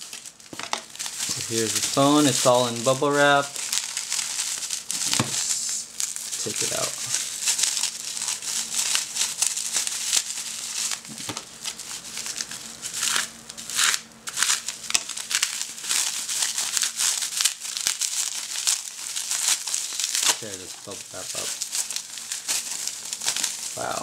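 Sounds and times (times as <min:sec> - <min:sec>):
bubble wrap crinkling: 0:00.0 - 0:24.0.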